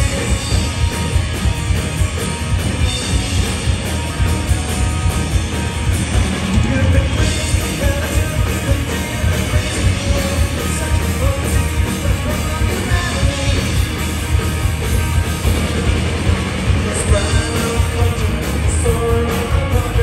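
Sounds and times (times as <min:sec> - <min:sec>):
live punk rock band: 0:00.0 - 0:20.0.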